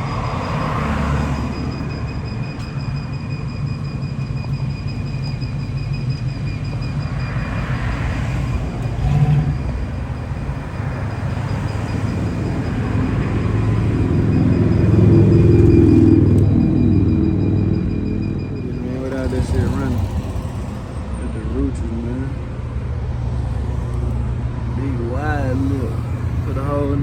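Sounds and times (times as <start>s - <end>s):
vehicle engine low rumble: 0.0s - 27.0s.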